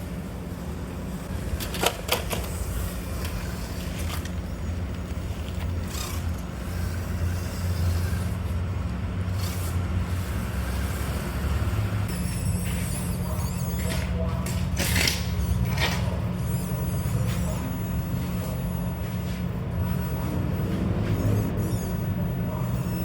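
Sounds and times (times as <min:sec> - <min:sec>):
small electric motor and gearbox: 0:01.2 - 0:23.0.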